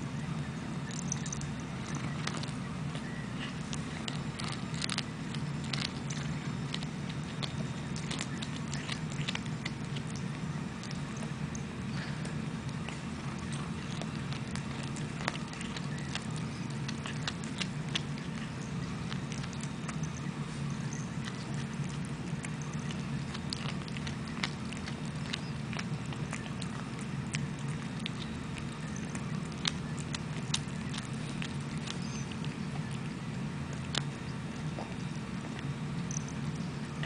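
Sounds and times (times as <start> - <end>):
low hum: 0.0 - 37.0
cat teeth crunching: 0.8 - 37.0.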